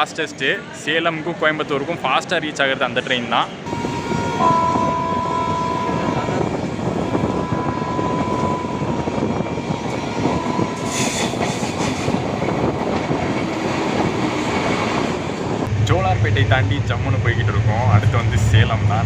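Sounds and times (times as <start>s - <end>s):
train wheels rumbling on rails: 3.7s - 19.0s.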